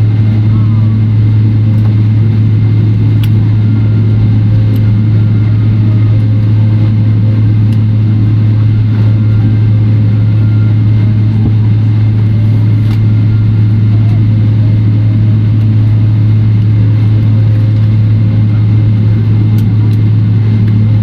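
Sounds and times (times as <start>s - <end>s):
cabin air-conditioning drone: 0.0s - 21.0s.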